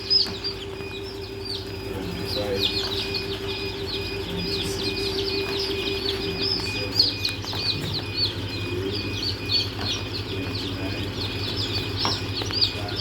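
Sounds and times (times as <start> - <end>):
chicks peeping: 0.0 - 13.0
steady low hum: 0.0 - 13.0.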